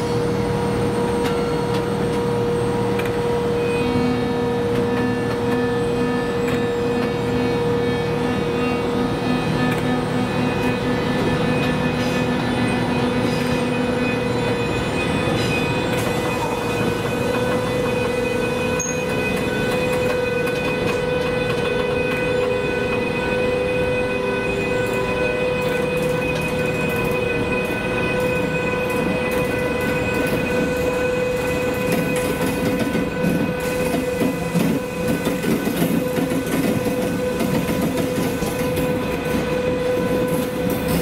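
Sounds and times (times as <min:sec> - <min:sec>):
train running with whine and rumble: 0:00.0 - 0:41.0.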